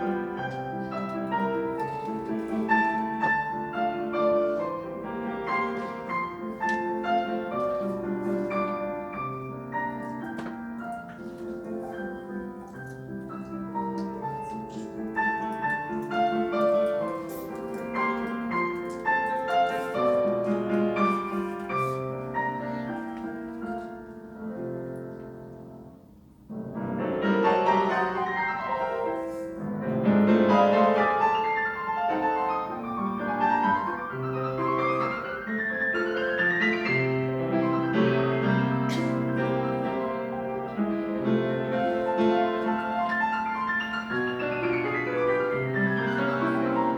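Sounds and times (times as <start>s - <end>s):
classical piano piece: 0.0s - 46.9s.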